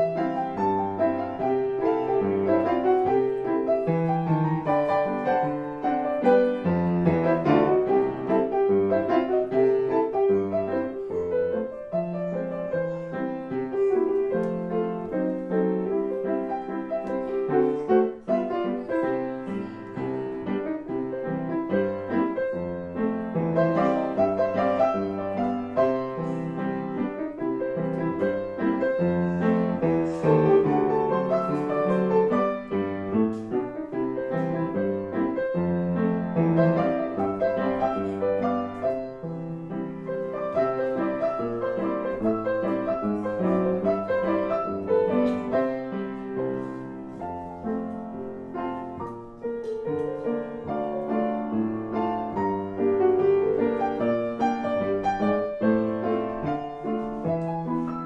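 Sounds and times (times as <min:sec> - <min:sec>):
solo grand piano: 0:00.0 - 0:58.0.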